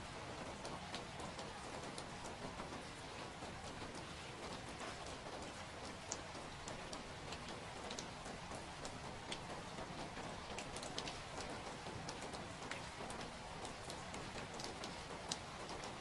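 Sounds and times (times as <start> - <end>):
raindrops tapping: 0.0 - 16.0
steady rain: 0.0 - 16.0.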